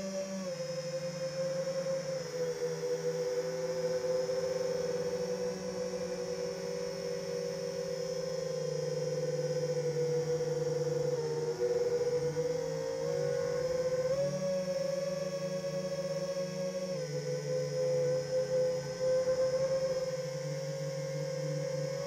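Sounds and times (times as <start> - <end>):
drone motors whining hum: 0.0 - 22.0.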